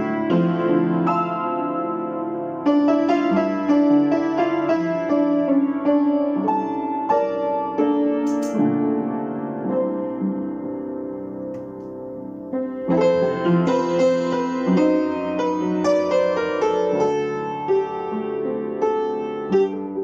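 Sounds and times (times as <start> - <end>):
slow acoustic piano: 0.0 - 20.0.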